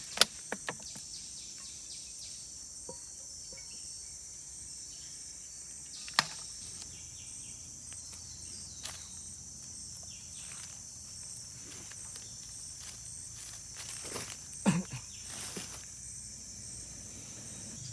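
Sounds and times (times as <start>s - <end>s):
insect chorus shrilling: 0.0s - 17.9s
insect pulsing rhythmically: 0.0s - 17.9s.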